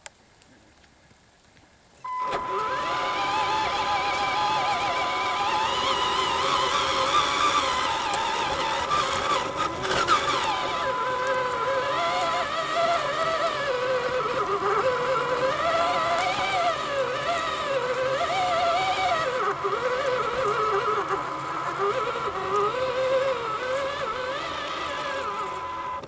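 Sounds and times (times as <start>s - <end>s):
electric motor whining: 2.0s - 26.0s
steady high hum: 2.0s - 26.0s.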